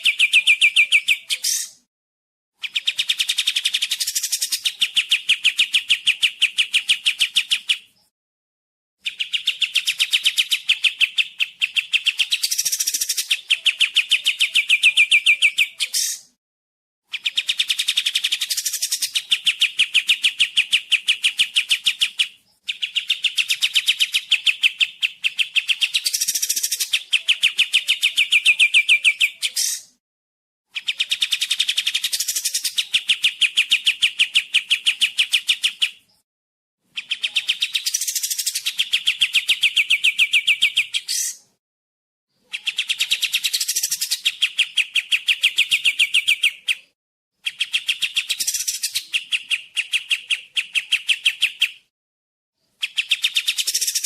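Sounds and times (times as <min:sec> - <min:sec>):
bird singing fast trills: 0:00.0 - 0:01.8, 0:02.6 - 0:08.1, 0:09.0 - 0:16.3, 0:17.1 - 0:30.0, 0:30.8 - 0:36.2, 0:37.0 - 0:41.5, 0:42.4 - 0:51.9, 0:52.7 - 0:54.0.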